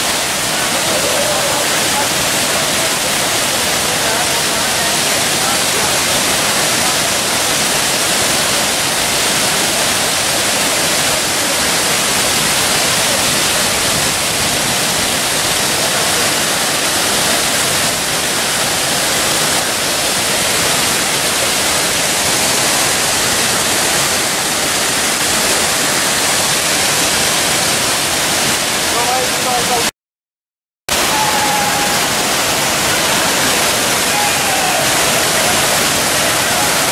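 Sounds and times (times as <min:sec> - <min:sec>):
waterfall rushing: 0:00.0 - 0:29.9, 0:30.9 - 0:36.9.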